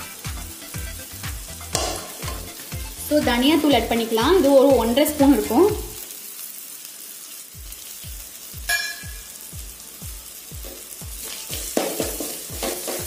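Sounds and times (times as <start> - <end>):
background music with steady beat: 0.0 - 6.0, 7.6 - 13.0
masala sizzling in a pan: 0.0 - 13.0.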